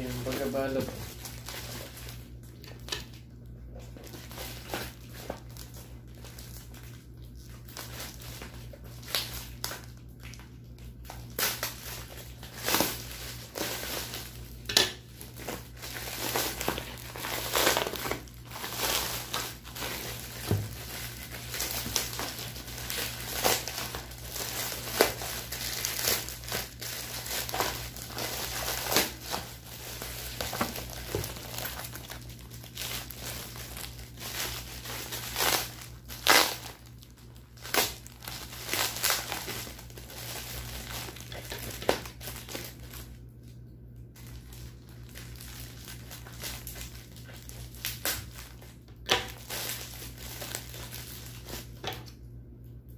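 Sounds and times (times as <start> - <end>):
plastic bag rustling: 0.0 - 43.2, 44.2 - 52.0
packing tape crinkling: 0.0 - 43.6, 44.2 - 52.2.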